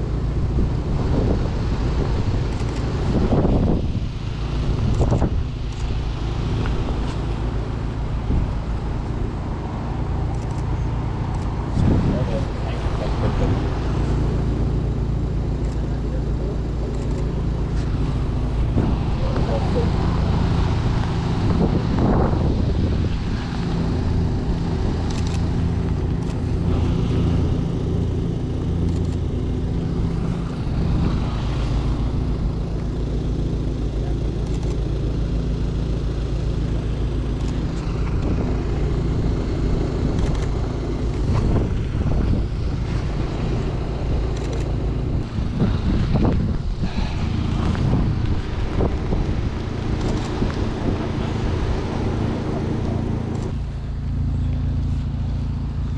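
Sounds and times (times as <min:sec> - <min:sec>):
car engine running: 0:00.0 - 0:55.9
outdoor noise: 0:00.0 - 0:55.9.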